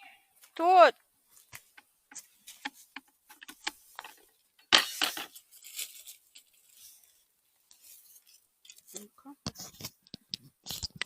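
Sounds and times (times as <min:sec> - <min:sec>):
twigs and leaves crackling: 0:00.4 - 0:11.0
rustle and crunch: 0:01.2 - 0:11.0.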